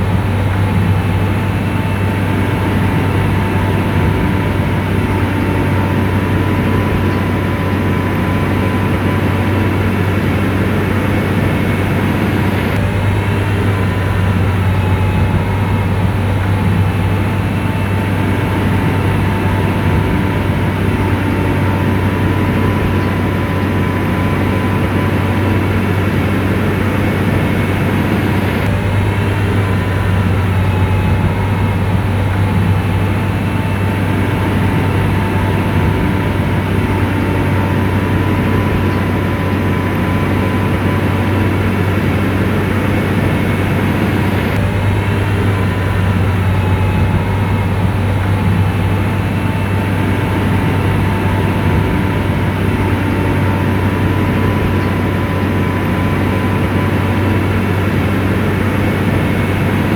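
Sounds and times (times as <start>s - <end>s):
diesel engine drone: 0.0s - 59.9s
faint steady whine: 0.0s - 59.9s.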